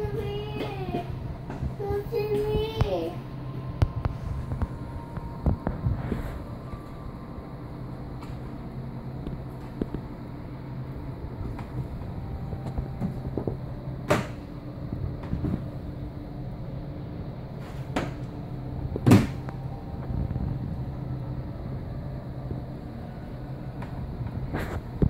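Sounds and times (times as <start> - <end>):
aquarium equipment humming: 0.0 - 25.0.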